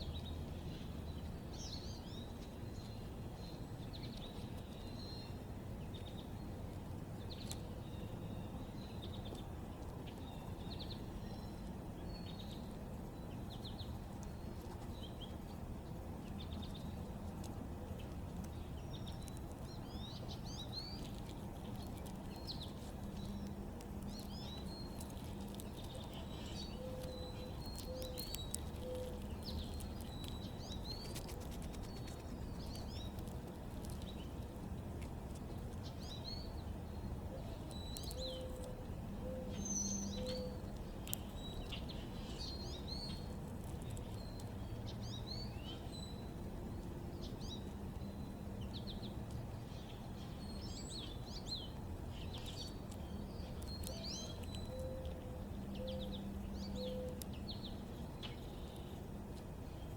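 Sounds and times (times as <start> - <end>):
outdoor background hum: 0.0 - 59.9
birds chirping: 7.2 - 59.1.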